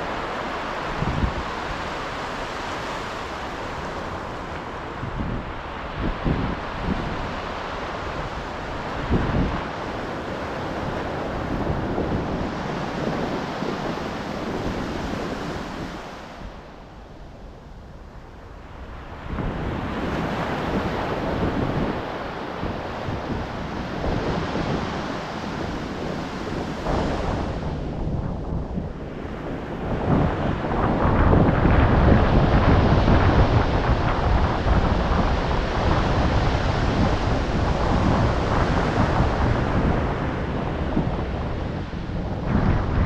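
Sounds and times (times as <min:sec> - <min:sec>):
ocean surf breaking: 0:00.0 - 0:43.0
wind buffeting microphone: 0:00.0 - 0:43.0.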